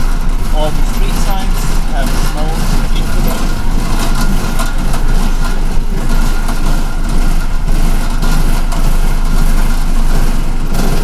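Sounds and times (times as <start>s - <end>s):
bus engine rumbling: 0.0s - 11.0s
road and cabin noise: 0.0s - 11.0s.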